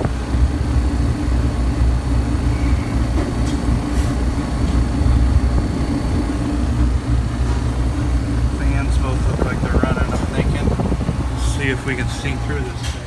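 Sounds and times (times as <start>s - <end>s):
freezer humming: 0.0s - 13.0s.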